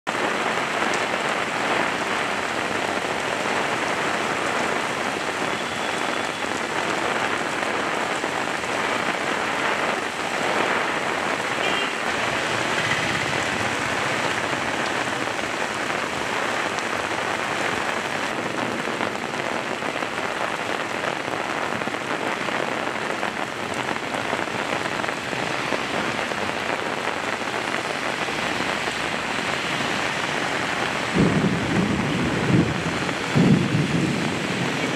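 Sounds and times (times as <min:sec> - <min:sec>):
heavy rain on paved road: 0:00.0 - 0:34.9.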